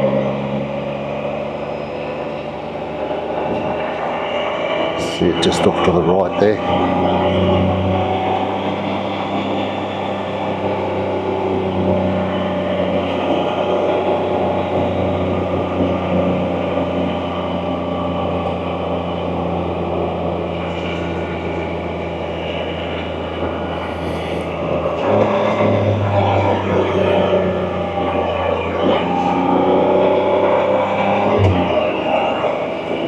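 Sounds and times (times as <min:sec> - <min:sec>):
motorcycle engine cruising: 0:00.0 - 0:33.0
road noise: 0:00.0 - 0:33.0.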